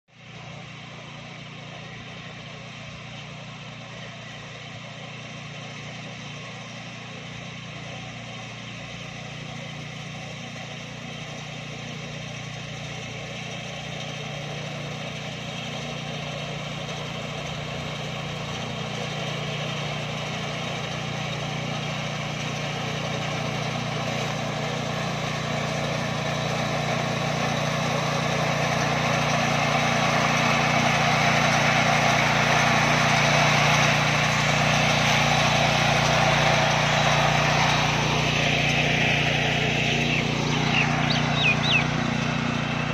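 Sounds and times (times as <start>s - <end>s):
walk-behind tractor cutting wheat: 0.1s - 42.9s.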